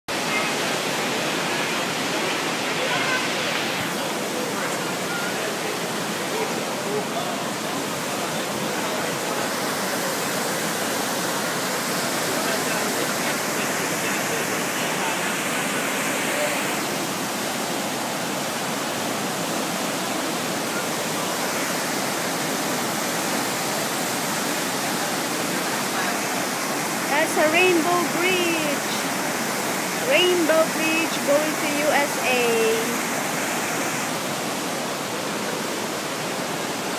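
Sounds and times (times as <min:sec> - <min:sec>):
whitewater rapids rushing: 0:00.1 - 0:36.9.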